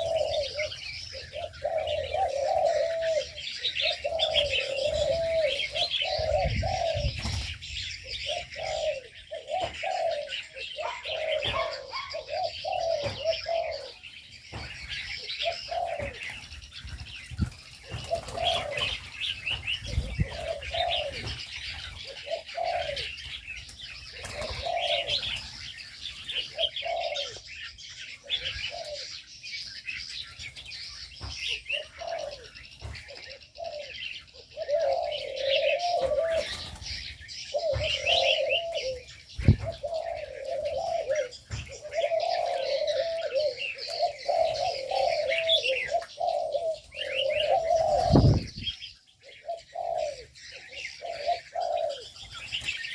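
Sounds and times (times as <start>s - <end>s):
doves cooing: 0.0s - 52.9s
small birds chirping: 0.0s - 52.9s.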